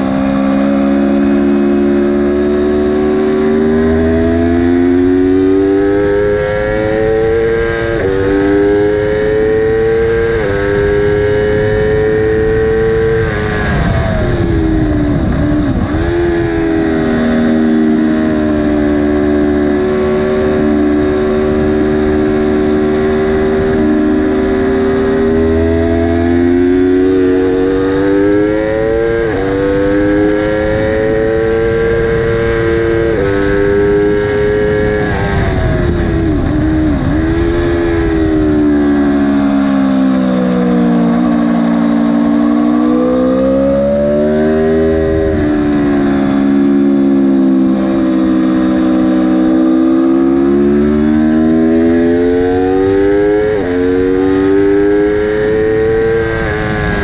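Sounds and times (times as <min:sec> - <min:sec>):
motorcycle engine revving: 0:00.0 - 0:57.0
wind rush: 0:03.8 - 0:57.0.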